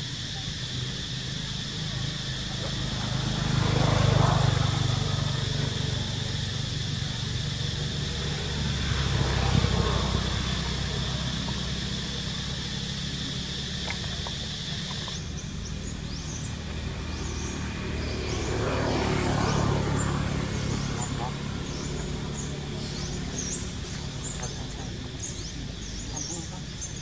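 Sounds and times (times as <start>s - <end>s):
motor engine humming: 0.0s - 27.0s.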